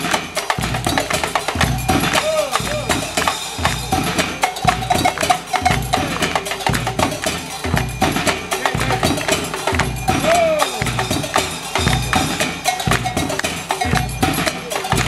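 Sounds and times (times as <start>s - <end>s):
deep drum beat: 0.0s - 15.0s
wood-block and metal knocks: 0.0s - 15.0s.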